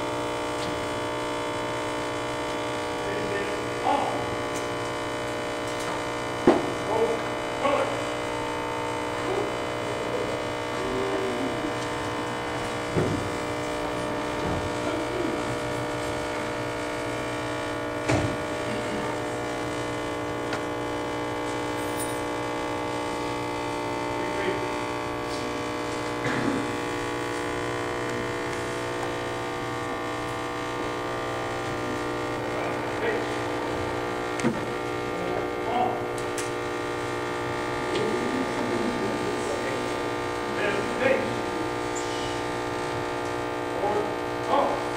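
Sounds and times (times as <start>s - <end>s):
electrical buzzing hum: 0.0s - 44.9s.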